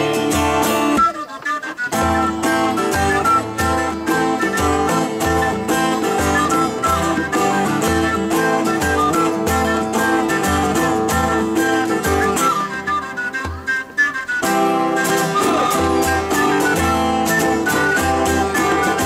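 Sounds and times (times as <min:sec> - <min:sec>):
flute melody: 0:00.0 - 0:19.0
strummed acoustic guitar: 0:00.0 - 0:19.0.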